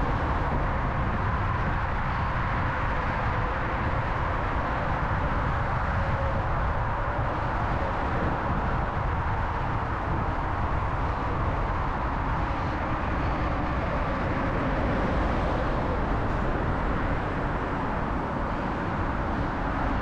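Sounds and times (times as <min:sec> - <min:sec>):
bicycle road noise: 0:00.0 - 0:20.0
city traffic rumble: 0:00.0 - 0:20.0
wind: 0:00.0 - 0:20.0.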